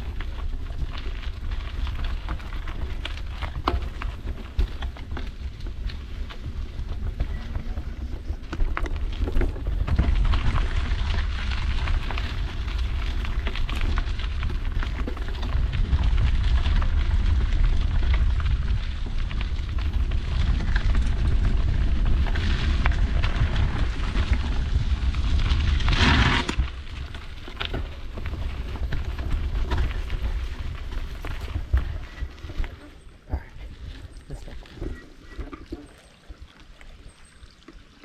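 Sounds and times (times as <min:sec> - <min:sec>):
wind buffeting microphone: 0:00.0 - 0:35.4
tyre crunch on dirt: 0:00.0 - 0:36.0.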